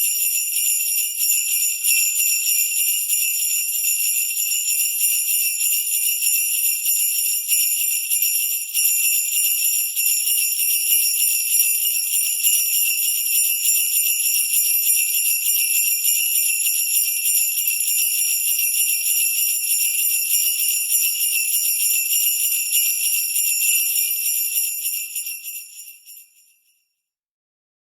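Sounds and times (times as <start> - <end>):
sleigh bells jingling: 0.0 - 26.7.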